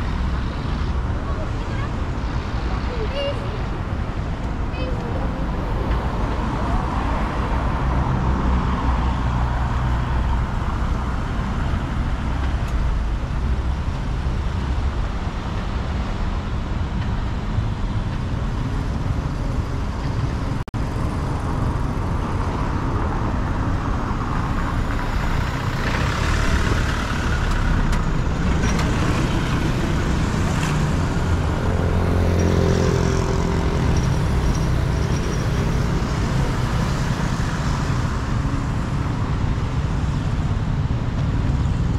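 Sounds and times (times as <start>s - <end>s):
rumble of passing cars: 0.0s - 41.9s.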